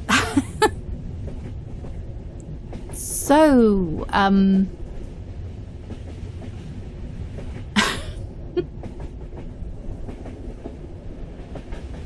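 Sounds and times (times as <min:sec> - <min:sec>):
moving train rumble: 0:00.0 - 0:12.0
train clickety-clack: 0:00.0 - 0:12.0.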